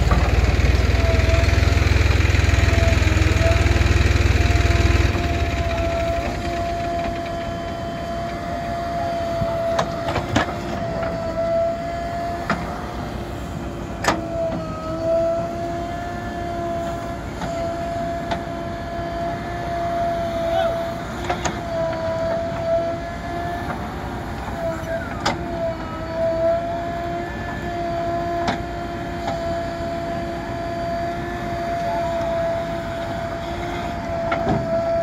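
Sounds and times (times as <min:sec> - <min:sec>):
backhoe loader engine whine: 0:00.0 - 0:35.0.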